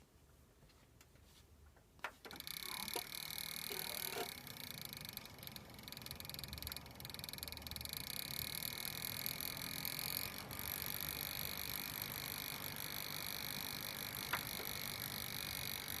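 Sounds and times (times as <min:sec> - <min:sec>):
computer high-pitched buzz: 0:02.4 - 0:16.0.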